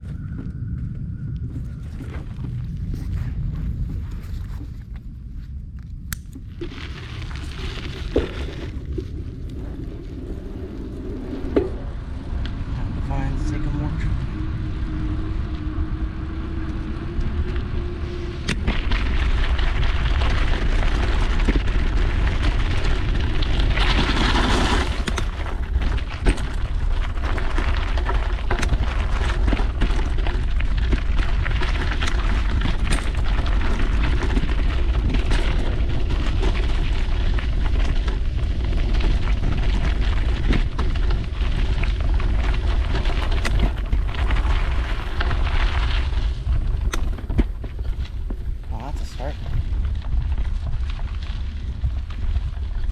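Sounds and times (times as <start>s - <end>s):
wind rumbling on microphone: 0.0s - 52.9s
mountain bike rattling on trail: 6.4s - 52.9s.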